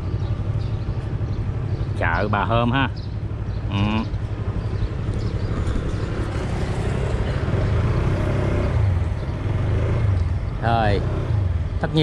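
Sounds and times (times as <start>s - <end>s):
motorbike engines rumbling: 0.0s - 12.0s.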